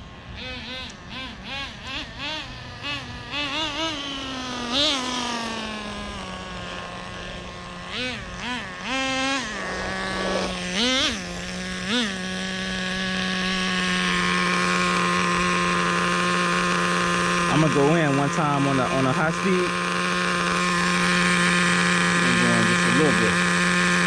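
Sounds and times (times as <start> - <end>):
rc car engine buzzing: 0.0 - 24.0.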